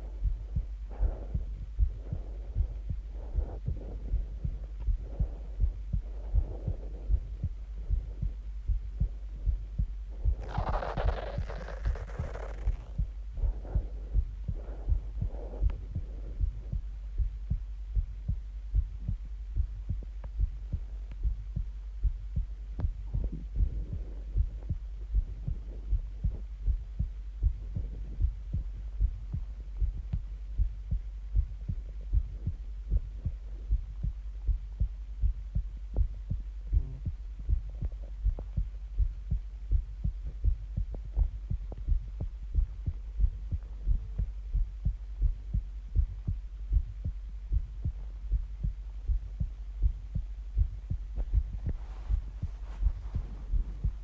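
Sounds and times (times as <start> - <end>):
constant low hum: 0.0 - 54.0
heartbeat thuds: 0.0 - 54.0.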